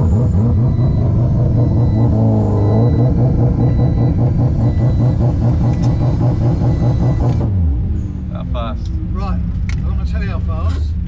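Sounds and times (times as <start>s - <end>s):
car engine running loud: 0.0s - 11.0s.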